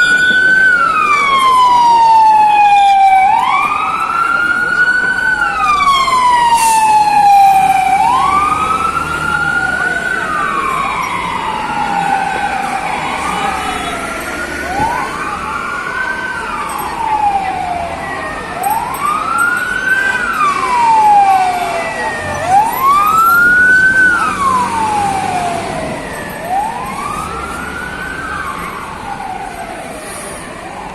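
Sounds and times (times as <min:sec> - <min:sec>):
fire engine siren wailing: 0:00.0 - 0:30.9.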